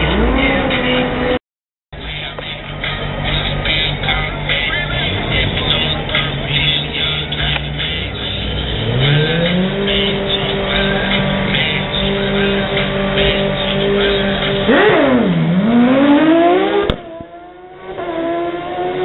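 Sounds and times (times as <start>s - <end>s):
motorcycle engine revving: 0.0s - 1.4s, 2.1s - 19.0s.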